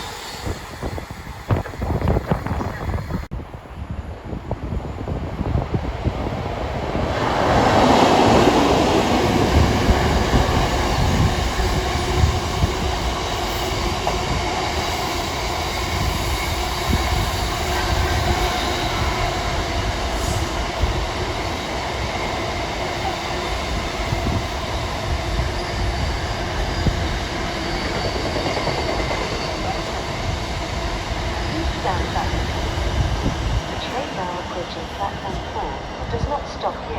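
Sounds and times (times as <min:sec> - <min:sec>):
train wheel and rail rumble: 0:00.0 - 0:36.9.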